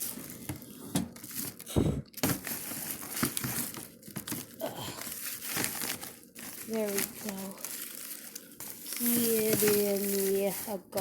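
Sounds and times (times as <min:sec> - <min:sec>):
plastic and paper rustling: 0:00.0 - 0:11.0.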